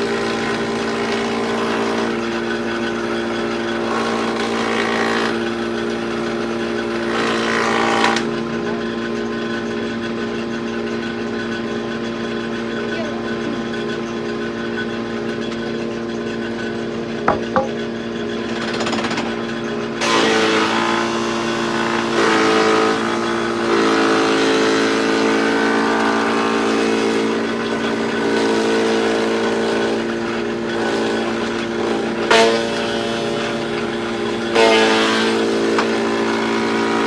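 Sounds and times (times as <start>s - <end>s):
board fed through planer: 0.0s - 37.0s
wood planer running: 0.0s - 37.0s.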